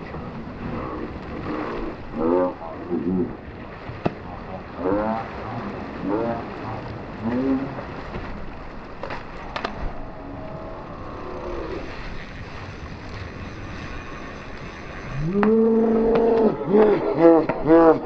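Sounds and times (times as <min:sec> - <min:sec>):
wind and water rushing: 0:00.0 - 0:18.0.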